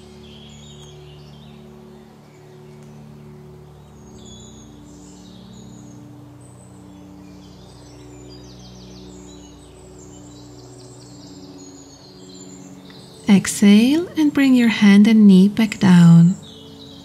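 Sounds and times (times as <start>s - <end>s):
birds chirping: 0.0s - 17.0s
soft ambient music: 0.0s - 17.0s.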